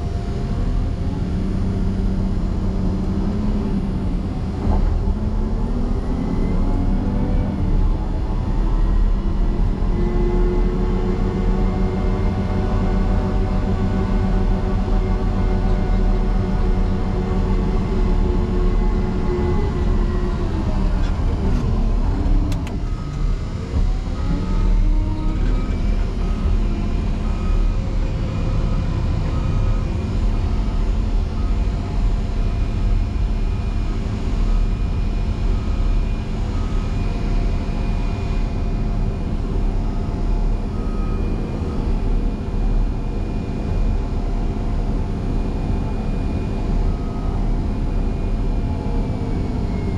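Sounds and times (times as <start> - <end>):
diesel engine working: 0.0 - 49.9.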